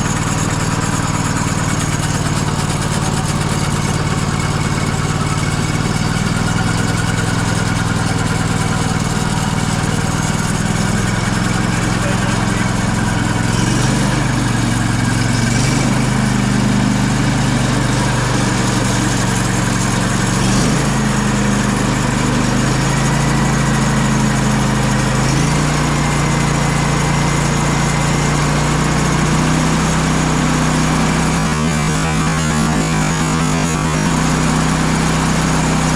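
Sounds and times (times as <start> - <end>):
sawmill engine running: 0.0 - 35.9.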